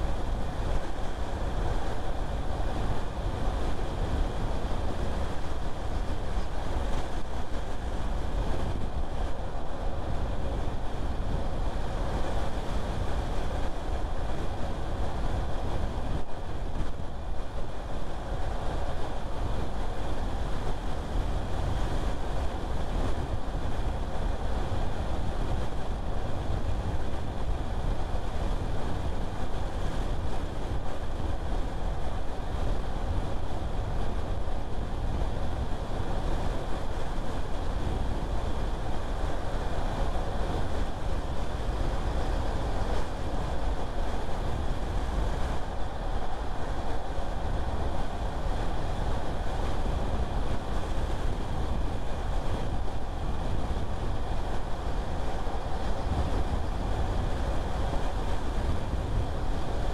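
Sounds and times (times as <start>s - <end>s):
tyre and wind hiss: 0.0s - 59.9s.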